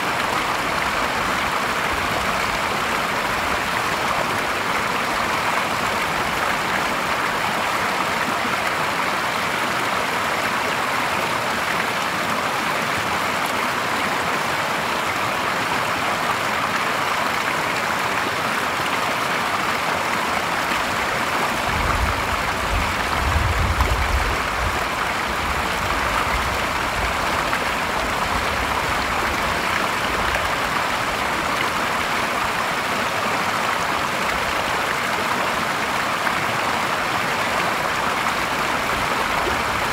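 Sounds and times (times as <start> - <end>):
stream water splashing over weir: 0.0 - 39.9.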